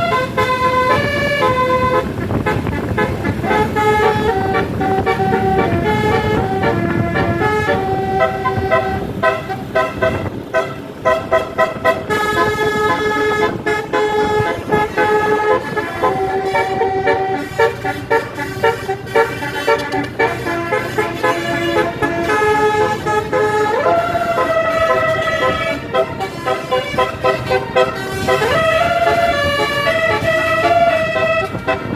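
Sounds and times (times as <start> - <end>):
low vehicle rumble: 0.0 - 31.9
musical air horn playing a tune: 0.0 - 31.9.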